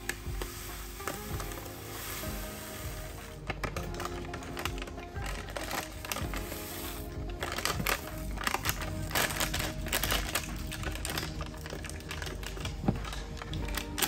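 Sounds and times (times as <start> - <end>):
foil bag crinkling: 0.0 - 14.0
tea leaves pouring into jar: 0.0 - 14.0.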